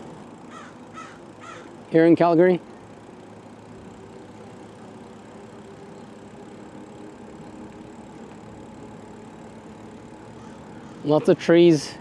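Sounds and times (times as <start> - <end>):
faint background rush: 0.0 - 12.0
low engine hum: 0.0 - 12.0.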